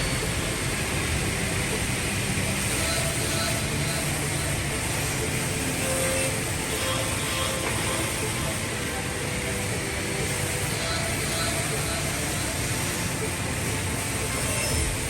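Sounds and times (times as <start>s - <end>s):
cnc milling machine running: 0.0s - 15.0s.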